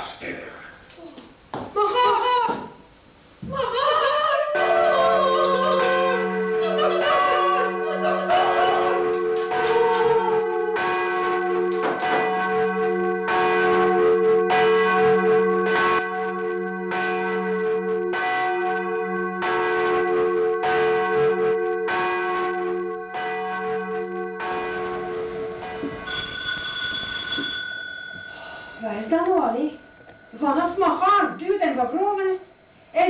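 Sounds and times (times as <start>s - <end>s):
church bell tolling: 4.5s - 32.4s.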